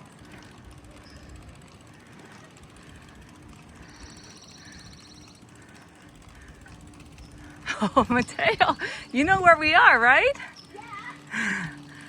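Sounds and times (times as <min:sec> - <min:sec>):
high pulsing buzz: 0:00.0 - 0:12.0
low outdoor rumble: 0:00.0 - 0:12.0.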